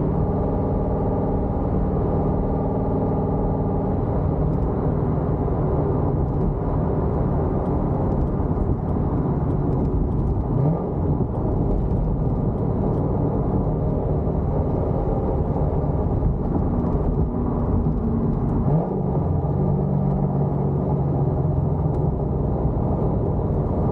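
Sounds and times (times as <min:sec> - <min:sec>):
car exhaust lopey rumble: 0:00.0 - 0:23.9.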